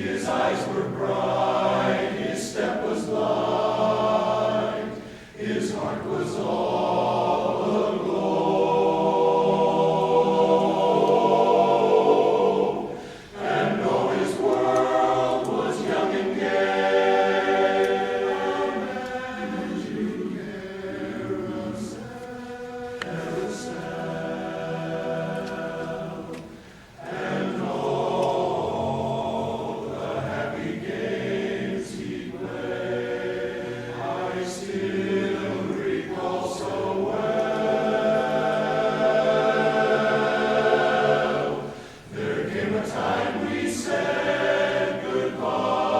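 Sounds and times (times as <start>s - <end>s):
choir singing in harmony: 0.0s - 45.9s.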